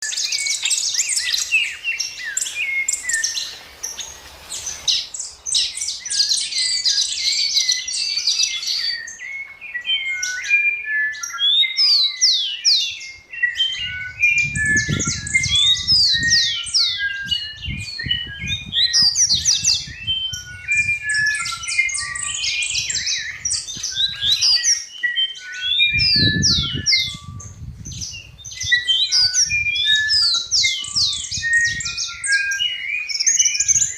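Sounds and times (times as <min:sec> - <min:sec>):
songbirds chirping and singing: 0:00.0 - 0:33.9.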